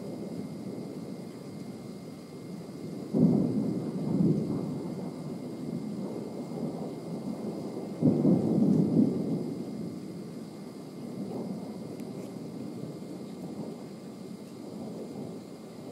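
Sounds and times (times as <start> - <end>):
thunder rumbling: 0.0 - 15.9.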